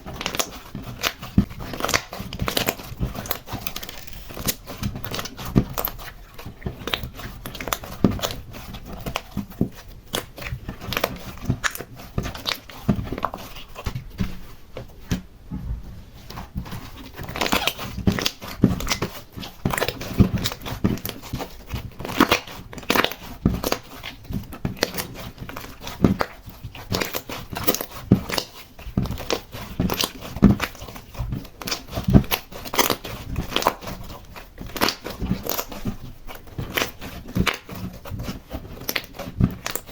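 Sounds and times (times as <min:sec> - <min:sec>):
slime being kneaded: 0:00.0 - 0:39.9.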